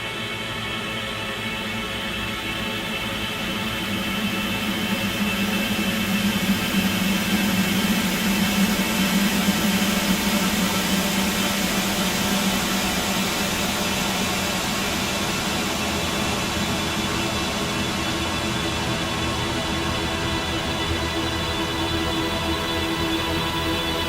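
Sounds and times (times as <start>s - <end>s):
noisy music drone: 0.0s - 24.0s.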